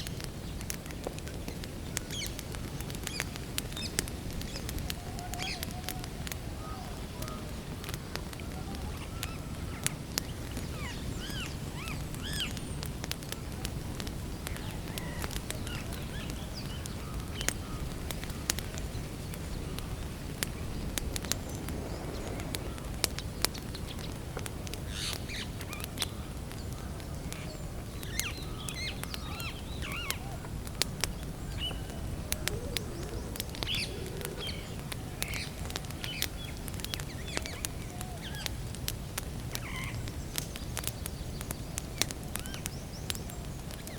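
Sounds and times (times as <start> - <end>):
campfire crackling and popping: 0.0 - 43.9
small birds chirping: 0.0 - 43.9.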